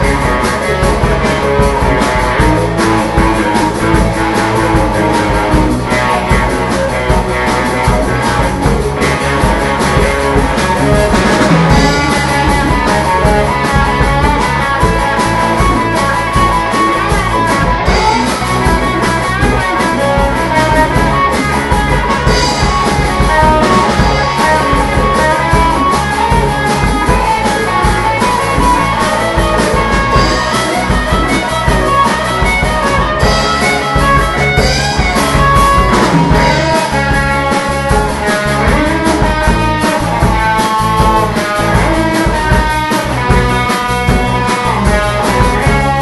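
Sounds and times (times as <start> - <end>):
rock song on guitar and drums: 0.0 - 46.0.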